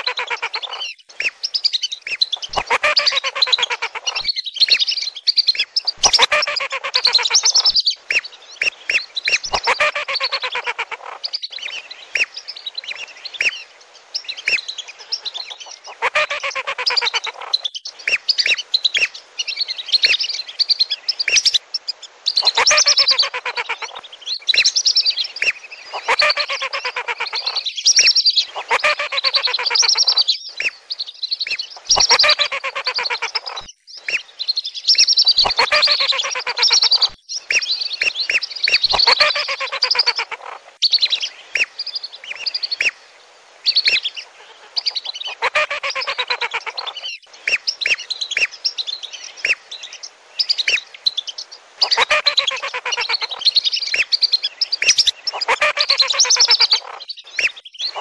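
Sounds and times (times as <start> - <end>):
whistling ducks calling: 0.0 - 12.3, 14.2 - 19.1, 22.3 - 24.8, 25.4 - 30.8, 31.5 - 34.2, 34.9 - 41.7, 43.7 - 48.6, 50.4 - 58.0.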